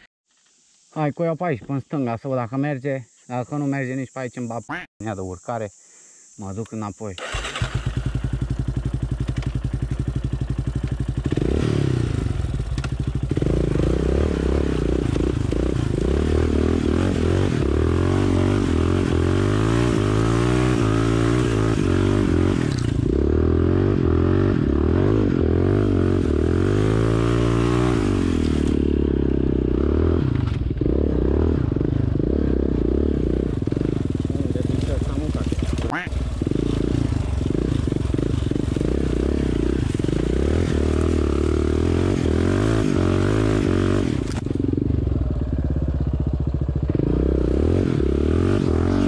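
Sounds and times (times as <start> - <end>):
quad bike engine revving: 7.2 - 49.0.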